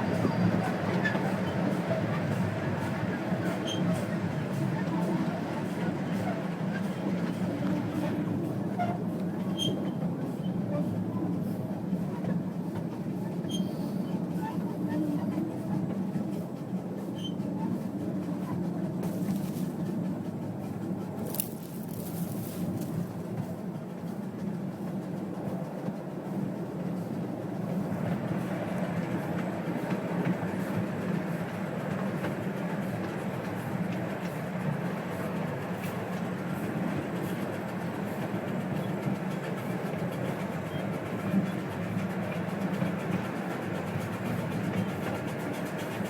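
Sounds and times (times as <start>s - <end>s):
small clicks of train: 0.0s - 46.0s
steam train running: 0.0s - 46.0s.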